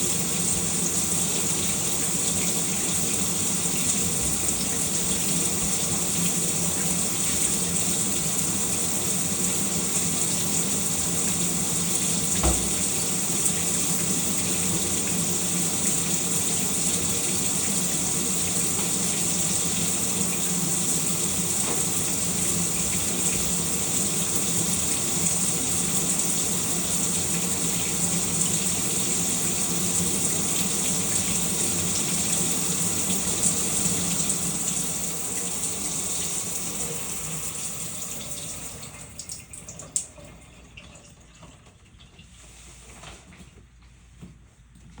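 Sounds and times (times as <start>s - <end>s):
shower running: 0.0s - 43.7s.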